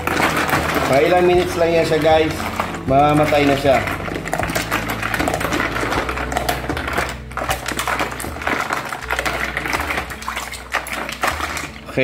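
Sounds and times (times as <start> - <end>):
ice cubes clinking: 0.0 - 12.0.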